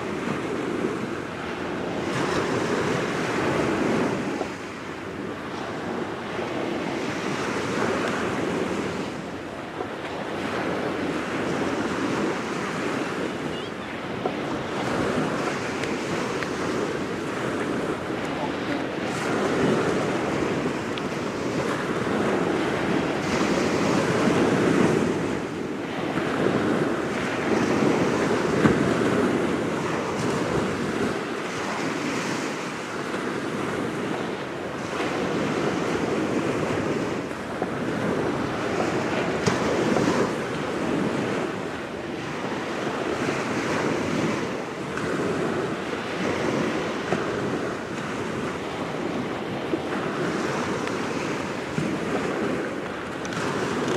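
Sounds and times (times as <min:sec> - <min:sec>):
small waves washing onto shore: 0:00.0 - 0:53.9
wind buffeting microphone: 0:00.0 - 0:53.9.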